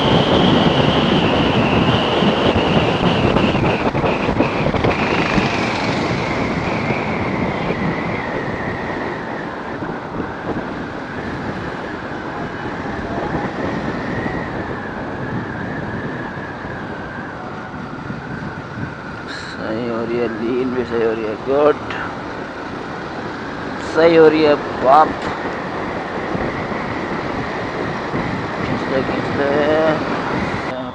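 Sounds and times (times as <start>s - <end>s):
motorcycle high whine: 0.0s - 30.9s
wind rushing over microphone: 0.0s - 30.9s.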